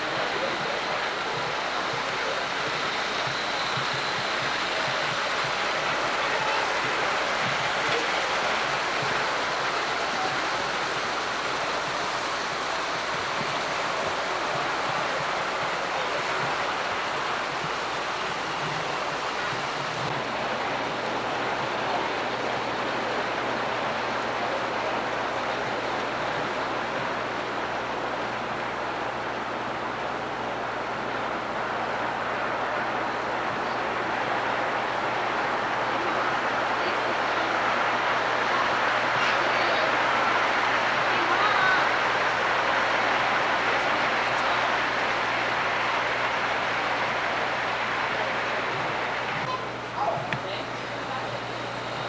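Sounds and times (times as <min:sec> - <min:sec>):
model train wheels rumbling on rail: 0:00.0 - 0:52.0.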